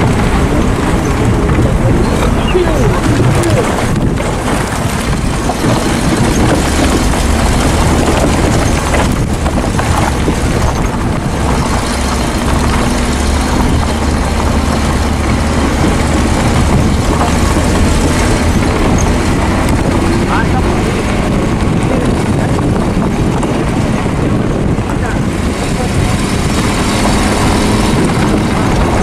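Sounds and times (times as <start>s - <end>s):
low engine hum: 0.0s - 29.0s
road noise on dirt track: 0.0s - 29.0s.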